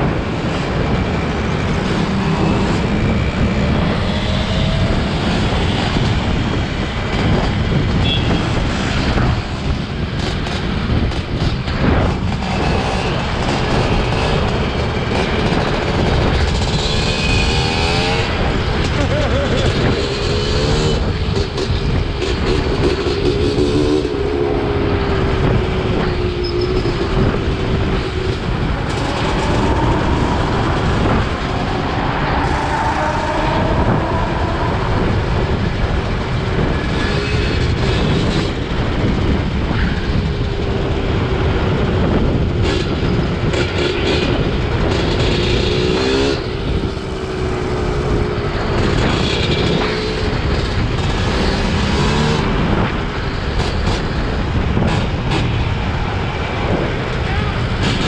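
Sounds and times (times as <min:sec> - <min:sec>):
motorcycle engines revving: 0:00.0 - 0:58.0
steady loud rumble: 0:00.0 - 0:58.0.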